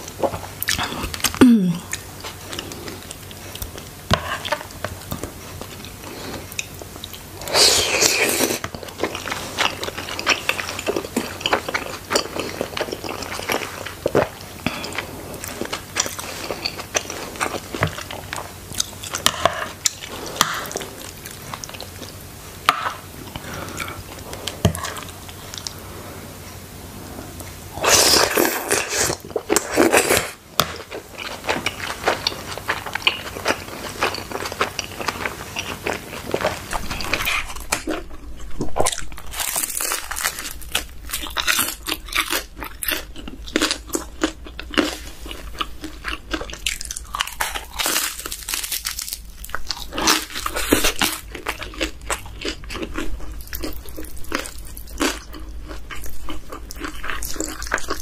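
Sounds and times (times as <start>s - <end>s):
person chewing dumplings: 0.0s - 25.9s, 27.4s - 58.0s.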